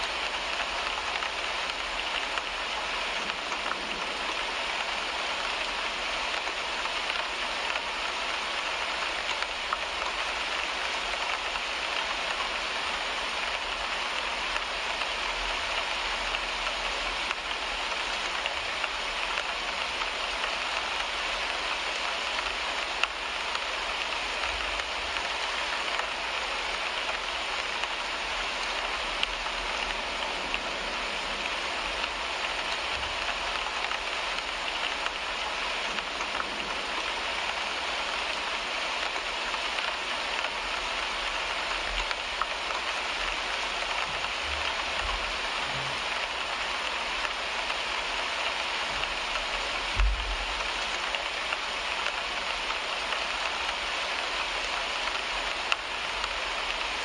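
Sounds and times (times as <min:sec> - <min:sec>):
rain on a car windshield: 0:00.0 - 0:57.0.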